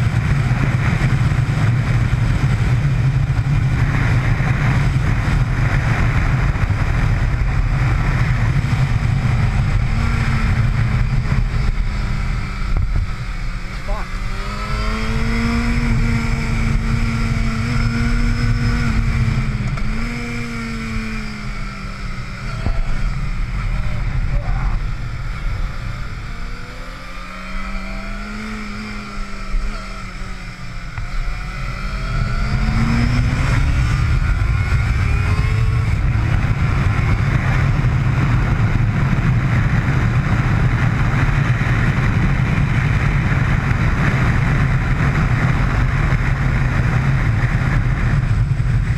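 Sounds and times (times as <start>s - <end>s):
motorcycle engine revving: 0.0s - 48.9s
wind noise on microphone: 0.0s - 48.9s.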